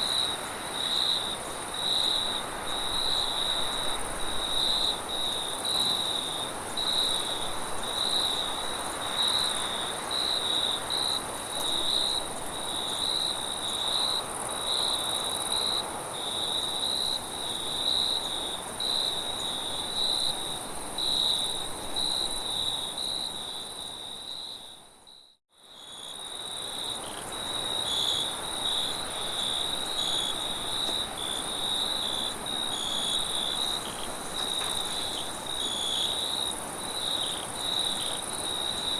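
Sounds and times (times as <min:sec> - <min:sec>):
crickets chirping: 0:00.0 - 0:38.9
high insect trill: 0:00.1 - 0:38.9.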